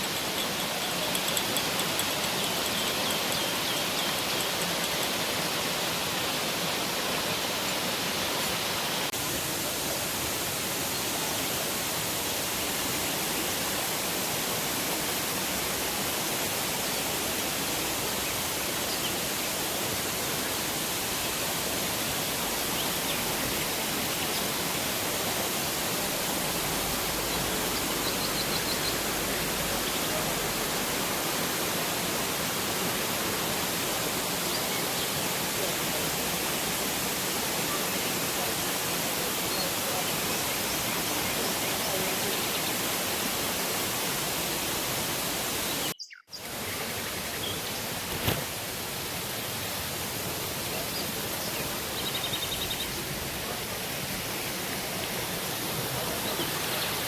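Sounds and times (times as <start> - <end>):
waterfall rushing: 0.0 - 45.9, 46.5 - 57.0.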